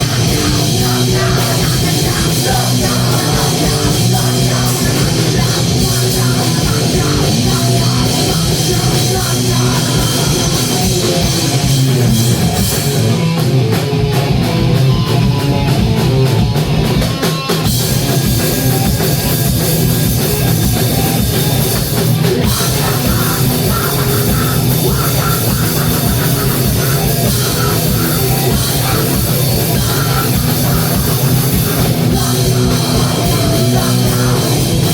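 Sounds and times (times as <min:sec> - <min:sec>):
drum kit: 0:00.0 - 0:34.9
rock band playing live: 0:00.0 - 0:34.9.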